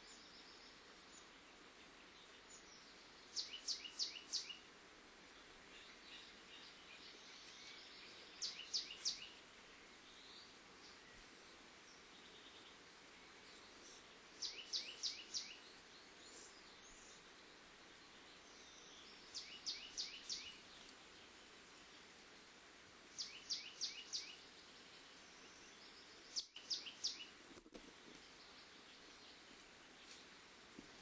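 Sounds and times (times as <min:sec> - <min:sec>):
faint hiss: 0:00.0 - 0:31.0
songbird singing: 0:00.0 - 0:31.0.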